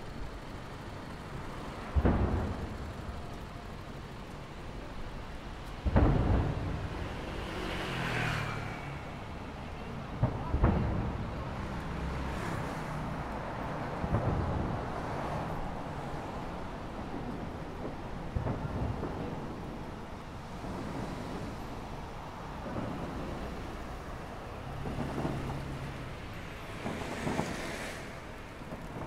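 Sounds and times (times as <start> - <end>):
fireworks booming: 0.0 - 29.0.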